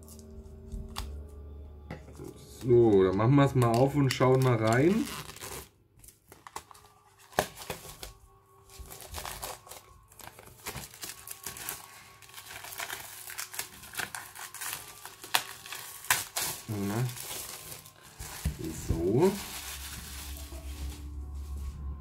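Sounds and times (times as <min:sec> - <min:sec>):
plastic shrink-wrap tearing and crinkling: 0:03.4 - 0:21.8.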